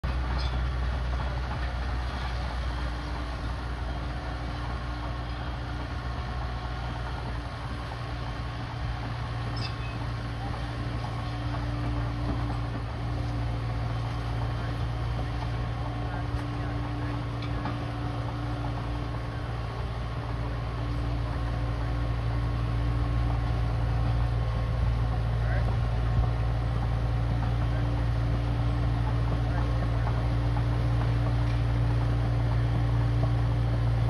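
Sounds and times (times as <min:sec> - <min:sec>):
dozer diesel engine droning: 0:00.0 - 0:34.0.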